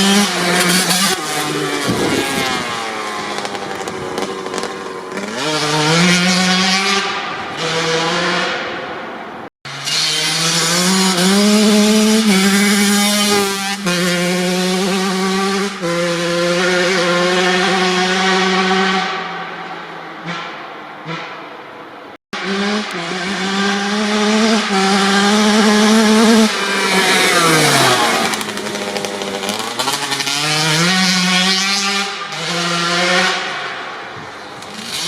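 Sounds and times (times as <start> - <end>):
dirt bike engine revving: 0.0 - 8.8, 9.7 - 19.5, 22.4 - 35.0.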